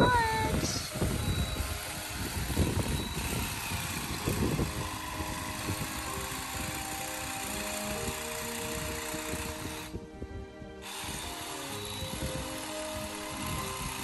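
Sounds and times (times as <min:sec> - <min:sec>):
background music: 0:00.0 - 0:14.0
small engine running: 0:00.6 - 0:10.0, 0:10.8 - 0:14.0.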